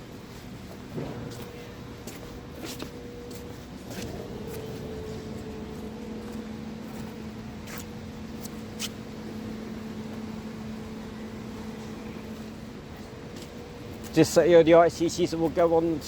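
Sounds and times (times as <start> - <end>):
tram equipment humming: 0.0 - 16.0.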